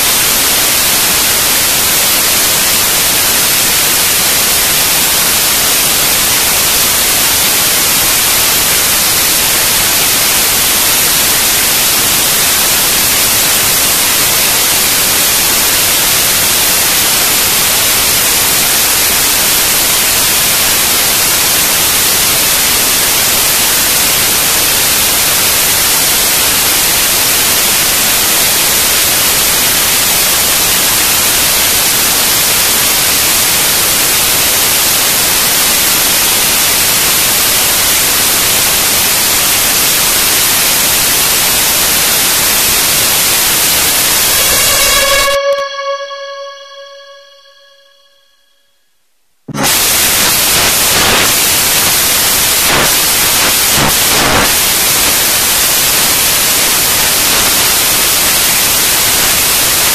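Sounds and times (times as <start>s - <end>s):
static hiss: 0.0s - 48.0s, 49.5s - 59.9s.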